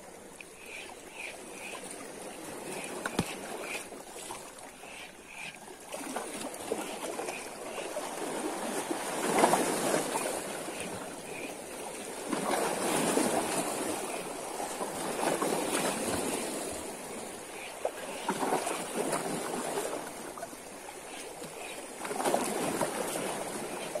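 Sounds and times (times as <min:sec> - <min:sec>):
small waves lapping: 0:00.0 - 0:24.0.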